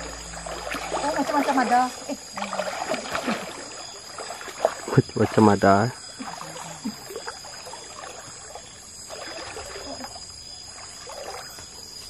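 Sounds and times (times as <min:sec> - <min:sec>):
legs wading through water: 0:00.0 - 0:12.0.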